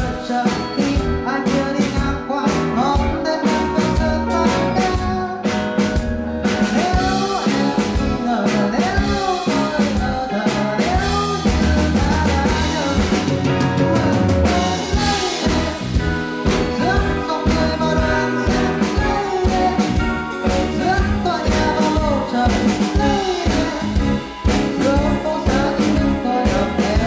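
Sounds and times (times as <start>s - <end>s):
bass line: 0.0s - 27.0s
drum kit beat: 0.0s - 27.0s
man singing: 0.0s - 27.0s.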